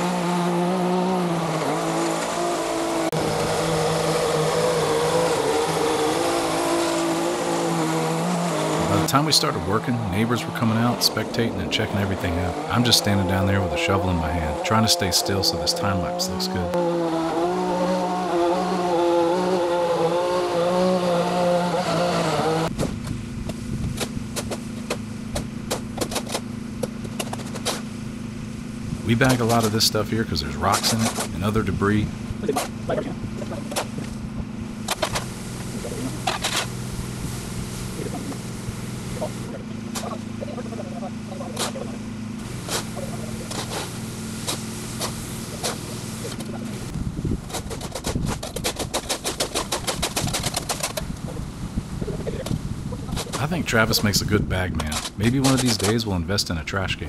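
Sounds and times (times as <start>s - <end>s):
small gasoline engine running: 0.0s - 54.2s.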